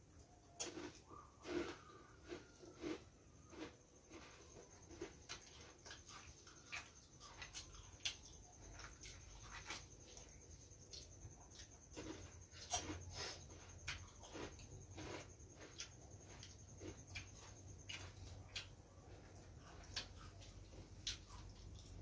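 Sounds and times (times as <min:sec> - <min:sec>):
chewing and smacking: 0:00.5 - 0:22.0.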